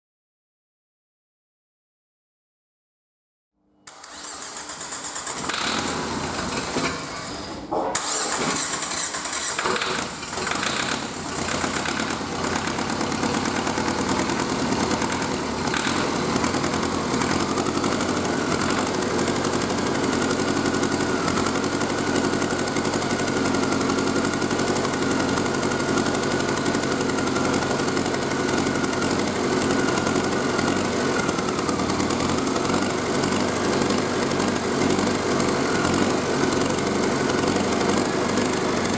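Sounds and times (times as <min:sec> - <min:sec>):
diesel engine starting and idling: 0:03.9 - 0:38.9.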